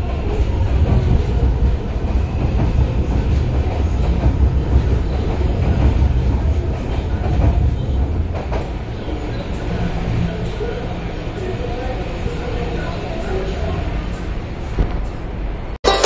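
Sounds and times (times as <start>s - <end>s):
metro train rumbling past: 0.0s - 15.8s.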